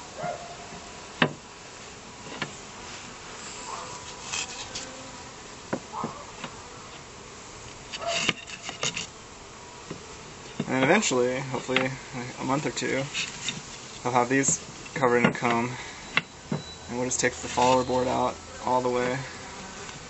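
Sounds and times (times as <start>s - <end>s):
honeybees buzzing: 0.0s - 20.0s
rustling: 1.6s - 9.2s, 9.9s - 20.0s.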